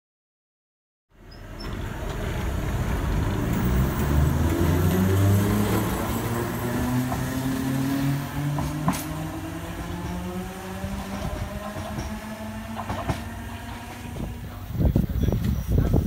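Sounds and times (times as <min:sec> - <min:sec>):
wheels rumbling on rail: 0:01.1 - 0:16.0
traction motors whining: 0:01.2 - 0:15.8.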